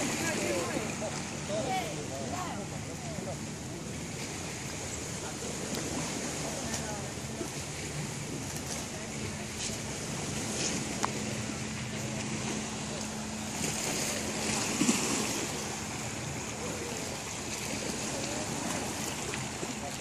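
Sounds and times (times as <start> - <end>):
distant motorboat engine hum: 0.0 - 20.0
small waves on shore: 0.0 - 20.0.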